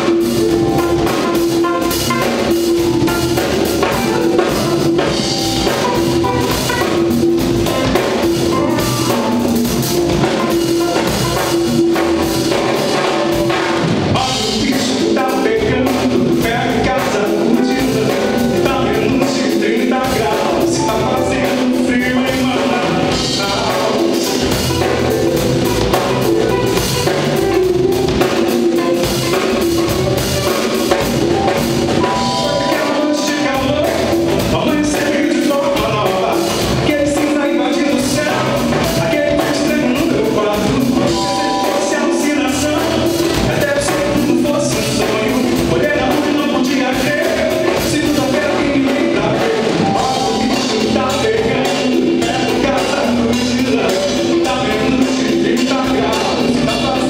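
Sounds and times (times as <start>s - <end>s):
man singing lead vocals: 0.0s - 29.6s, 30.9s - 57.0s
drum kit: 0.0s - 57.0s
electric bass: 0.0s - 57.0s
electric guitar: 0.0s - 57.0s
keyboards: 0.0s - 57.0s.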